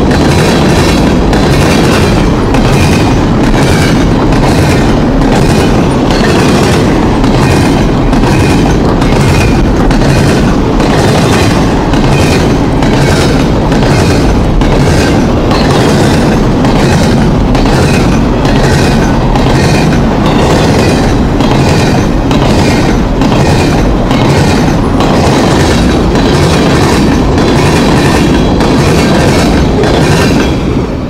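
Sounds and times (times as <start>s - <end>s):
train cars rumbling past: 0.0s - 31.0s
wheels clacking over rail joints: 0.0s - 31.0s.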